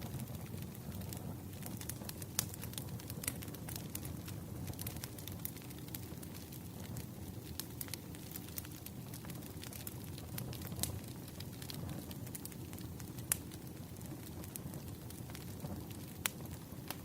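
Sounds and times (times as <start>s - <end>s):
campfire flames rumbling: 0.0s - 17.0s
fire crackles and pops: 0.0s - 17.0s.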